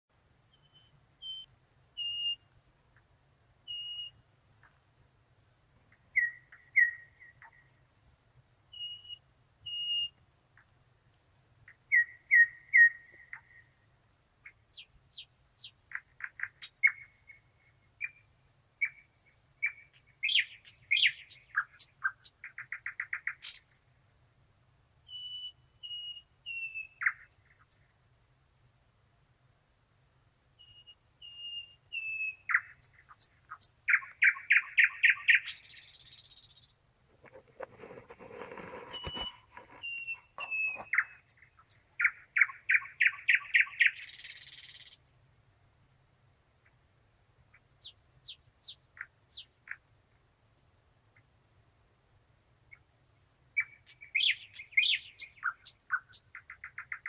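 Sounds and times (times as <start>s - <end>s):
nightingale singing: 0.4s - 27.9s, 29.7s - 45.2s, 46.2s - 51.3s, 52.7s - 57.0s.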